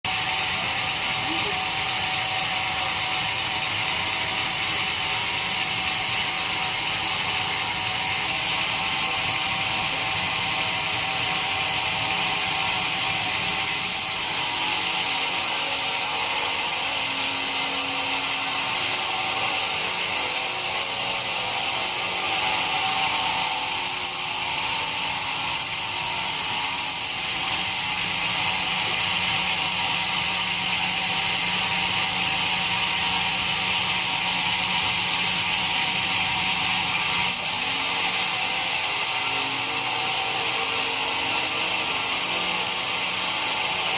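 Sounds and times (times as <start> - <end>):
band saw running: 0.1 - 43.9.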